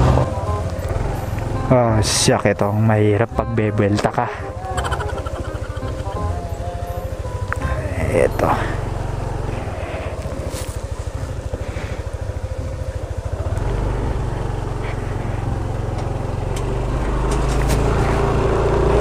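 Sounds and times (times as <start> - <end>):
scooter engine idling and pulling away: 0.0 - 19.0.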